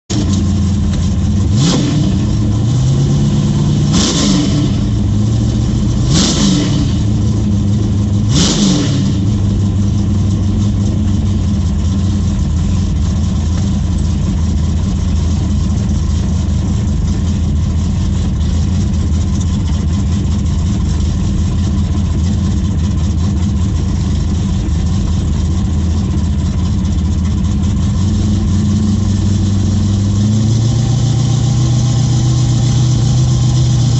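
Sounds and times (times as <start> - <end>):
truck engine revving through gears: 0.1 - 33.9.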